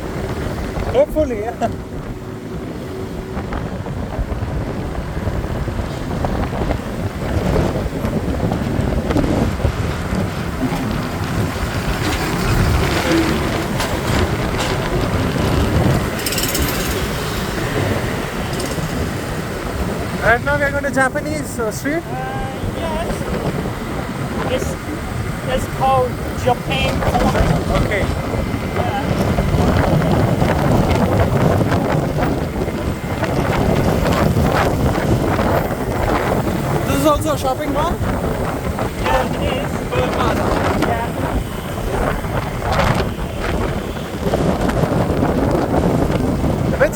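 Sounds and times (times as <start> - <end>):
road and traffic rumble: 0.0 - 46.9
vehicle noise: 0.0 - 46.9
wind buffeting microphone: 0.0 - 46.9.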